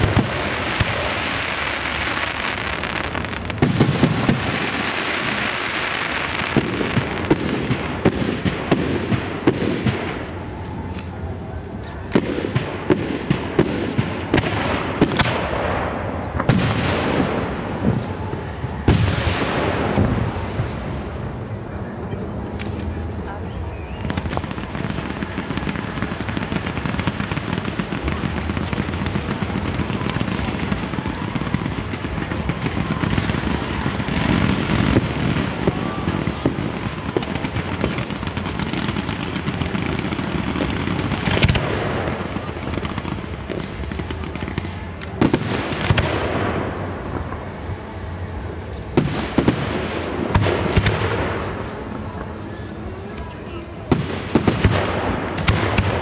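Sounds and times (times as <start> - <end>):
fireworks crackling and popping: 0.0 - 56.0
heavy firework bursts: 0.0 - 56.0.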